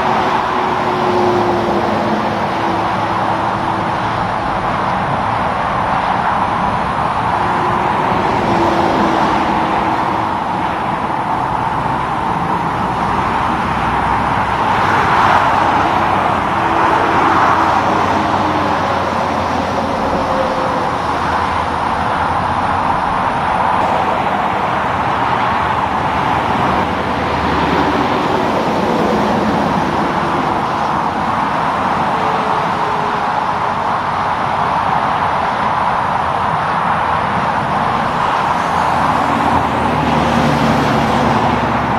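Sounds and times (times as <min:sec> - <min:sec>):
highway traffic passing: 0:00.0 - 0:41.9.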